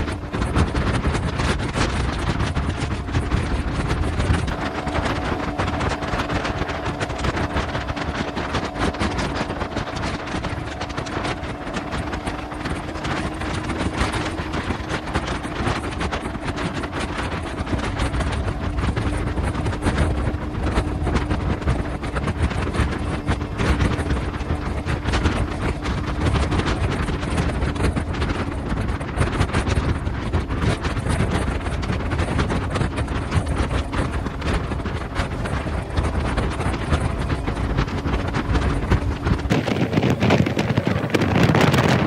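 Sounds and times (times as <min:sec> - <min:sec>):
wind rushing on microphone: 0:00.0 - 0:42.0
motorcycle engine humming: 0:02.0 - 0:29.1, 0:32.6 - 0:42.0.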